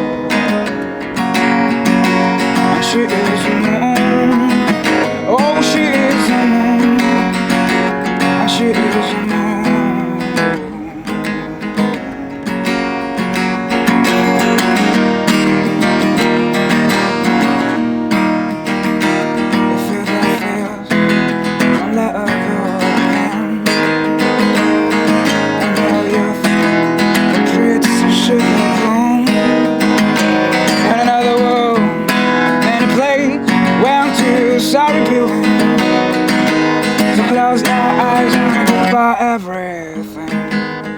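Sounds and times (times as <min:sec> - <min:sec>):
strummed acoustic guitar: 0:00.0 - 0:40.9.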